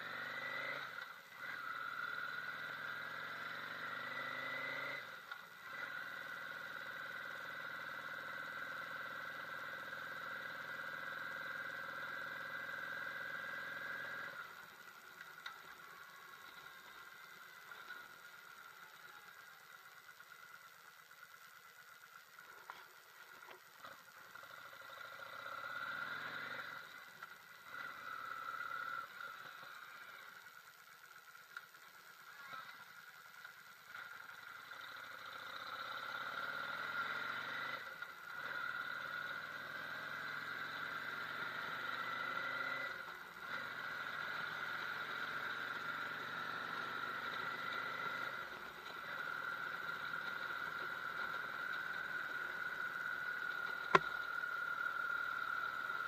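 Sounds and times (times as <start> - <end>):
motorcycle engine accelerating: 0.0 - 20.4, 22.3 - 33.1, 33.8 - 56.0.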